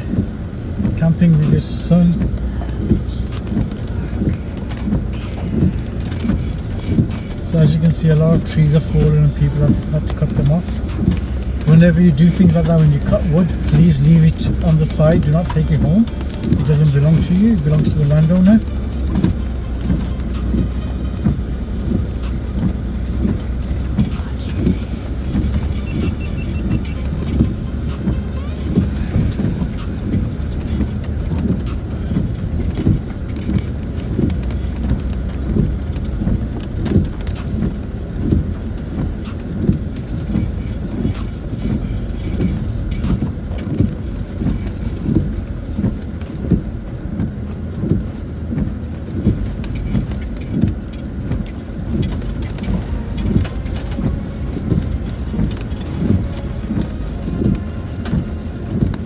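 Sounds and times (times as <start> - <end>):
vehicle cabin rumble: 0.0 - 59.0
vehicle knocks and thumps: 0.0 - 59.0.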